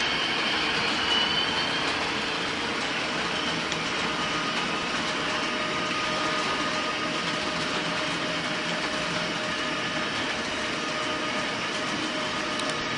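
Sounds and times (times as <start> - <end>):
model diesel locomotive engine sound: 0.0 - 12.9.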